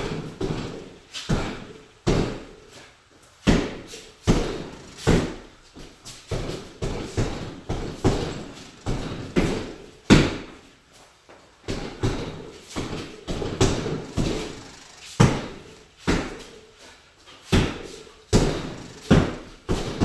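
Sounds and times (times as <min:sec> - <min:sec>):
punches thudding on heavy bag: 0:00.0 - 0:02.6, 0:03.4 - 0:10.6, 0:11.7 - 0:16.5, 0:17.5 - 0:20.0.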